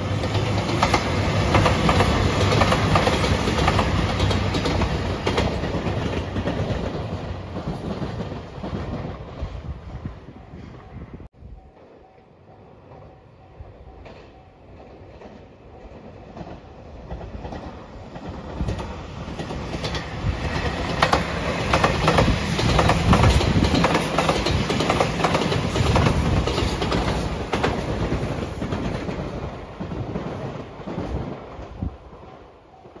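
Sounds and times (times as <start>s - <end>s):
electric train passing: 0.0s - 33.0s.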